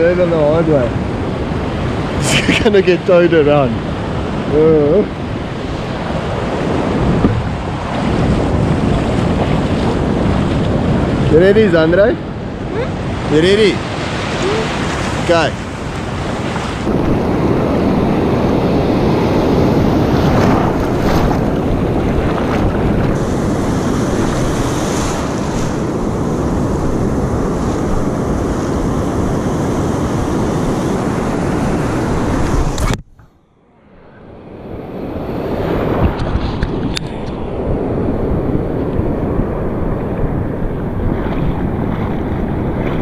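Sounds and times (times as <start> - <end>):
ocean surf breaking: 0.0 - 43.0
wind buffeting microphone: 0.0 - 43.0.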